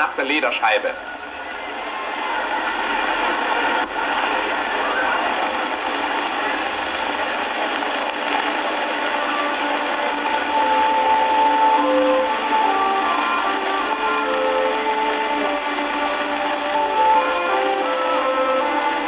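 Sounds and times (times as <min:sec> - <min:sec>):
film soundtrack hiss: 0:00.0 - 0:19.0
long held melodic notes: 0:00.9 - 0:19.0.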